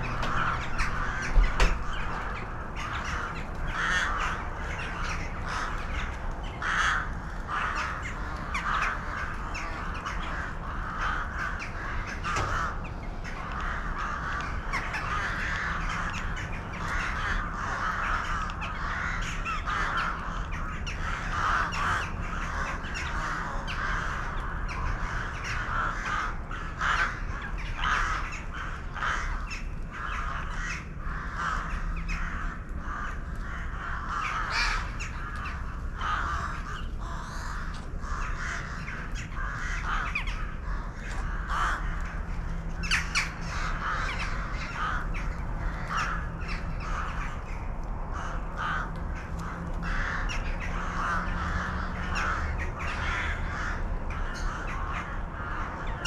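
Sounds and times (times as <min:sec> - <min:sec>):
flock of birds calling: 0:00.0 - 0:56.0.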